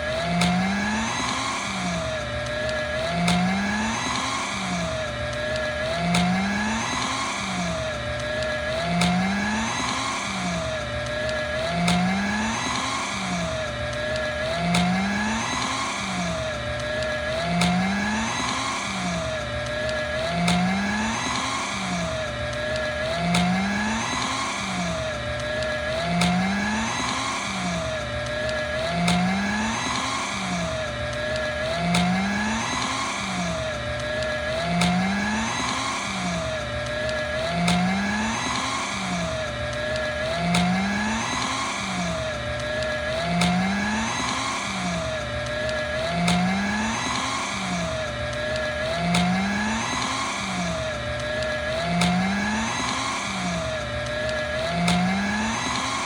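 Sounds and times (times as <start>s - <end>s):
paper shredder cutting paper: 0.0s - 56.0s.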